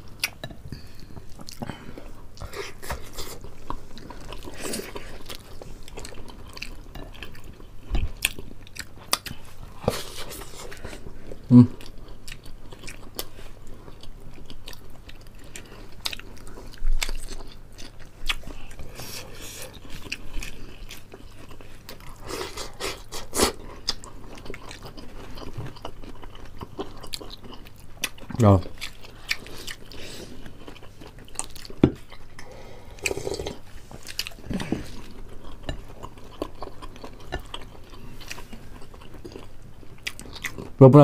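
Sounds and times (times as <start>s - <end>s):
people chewing and crunching: 0.0s - 41.0s.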